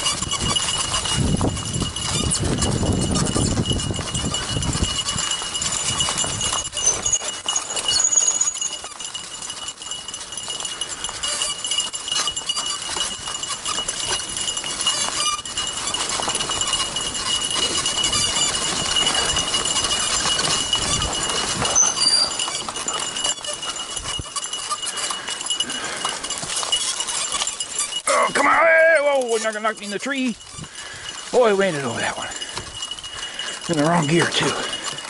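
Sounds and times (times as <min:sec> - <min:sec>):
bike tyres crunching on dirt: 0:00.0 - 0:35.0.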